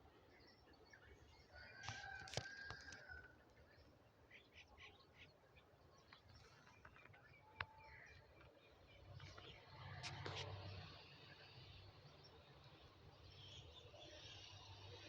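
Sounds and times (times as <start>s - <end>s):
faint bird chirps and calls: 0.0s - 15.0s.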